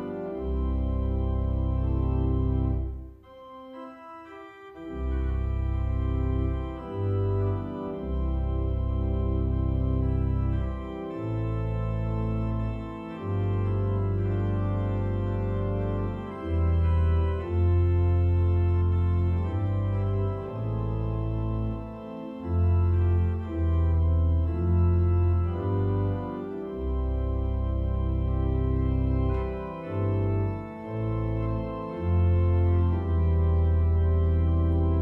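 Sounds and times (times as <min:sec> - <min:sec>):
organ playing slow chords: 0:00.0 - 0:35.0.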